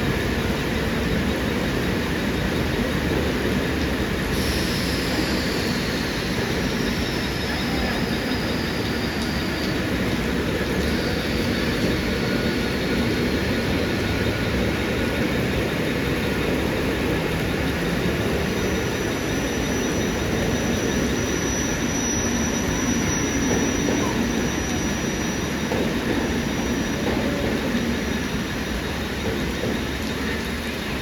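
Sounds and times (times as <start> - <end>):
electric train rumbling: 0.0 - 31.0
thin high whine: 0.0 - 31.0.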